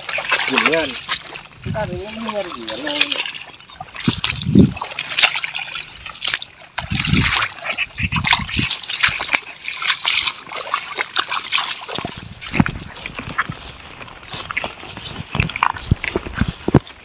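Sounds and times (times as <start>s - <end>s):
footsteps splashing through mud: 0.0s - 17.0s.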